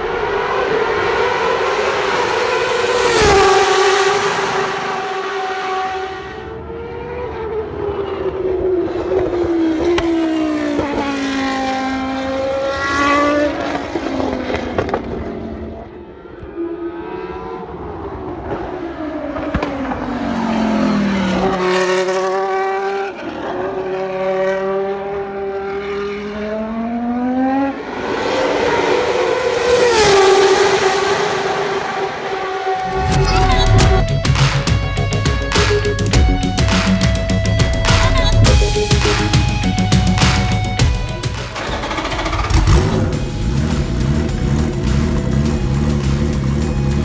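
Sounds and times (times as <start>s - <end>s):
racing car engine at high revs: 0.0s - 47.0s.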